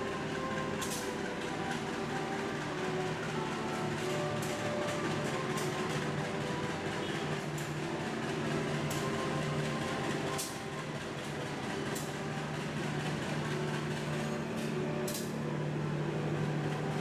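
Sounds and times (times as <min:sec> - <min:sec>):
train mechanical hum: 0:00.0 - 0:17.0.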